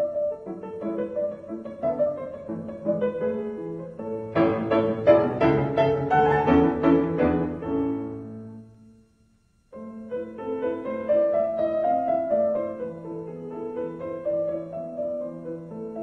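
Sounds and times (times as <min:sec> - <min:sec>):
piano music: 0:00.0 - 0:08.9, 0:09.8 - 0:16.0.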